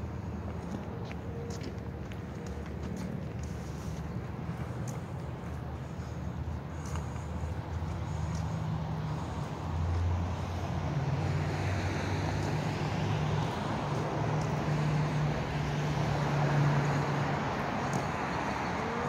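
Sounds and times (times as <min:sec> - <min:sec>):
city street traffic: 0:00.0 - 0:19.0
vehicle engine humming: 0:00.0 - 0:19.0.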